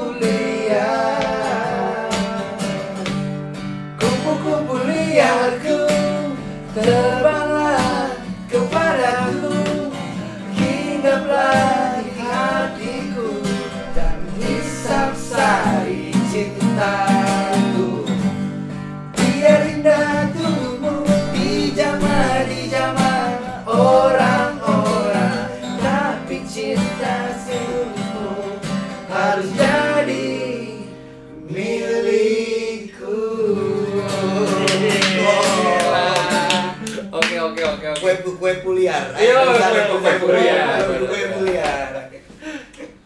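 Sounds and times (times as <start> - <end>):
man singing: 0.0 - 3.3, 4.0 - 18.3, 19.1 - 37.1
acoustic guitar strumming: 0.0 - 32.1, 33.5 - 37.2.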